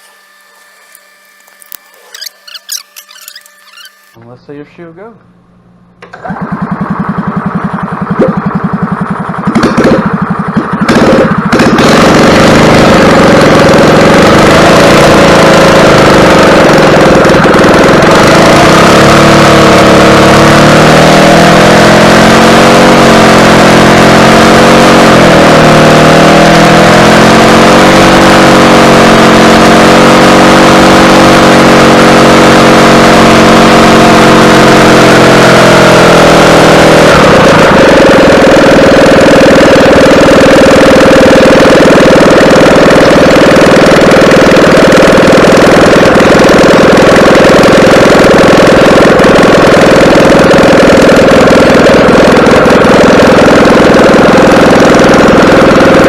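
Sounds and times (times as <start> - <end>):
small engine starting and running: 0.0 - 4.9, 5.9 - 56.0.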